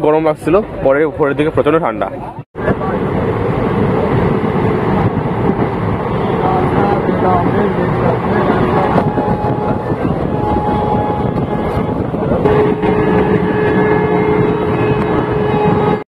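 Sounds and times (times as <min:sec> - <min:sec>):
passenger train rumbling: 0:00.0 - 0:16.0
wind on microphone: 0:02.6 - 0:16.0.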